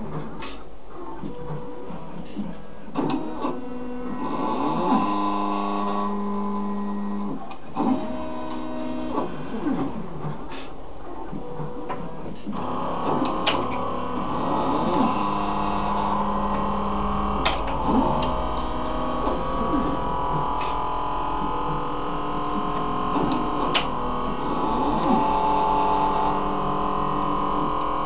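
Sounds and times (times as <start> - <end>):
machine hum: 0.0 - 28.0
stepper motors whining: 0.0 - 28.0.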